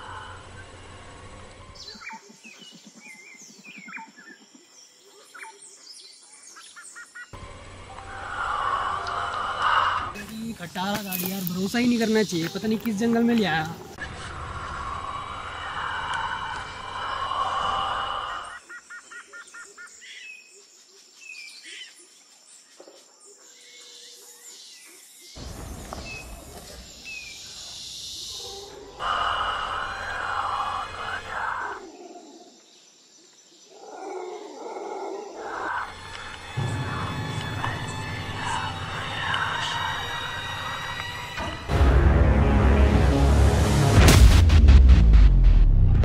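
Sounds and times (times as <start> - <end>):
birds chirping and whistling: 0.0 - 22.0, 23.5 - 34.5, 35.2 - 41.5.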